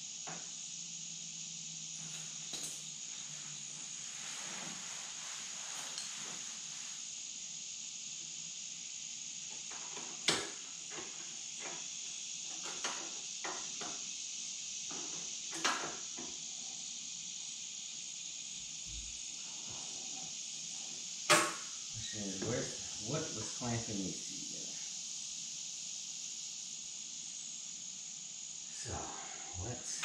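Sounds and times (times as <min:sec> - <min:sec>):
steady high hiss: 0:00.0 - 0:30.0.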